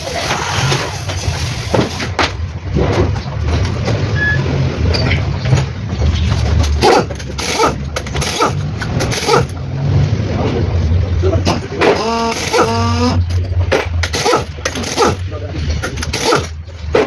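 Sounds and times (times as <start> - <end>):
diesel engine droning: 2.4 - 17.0.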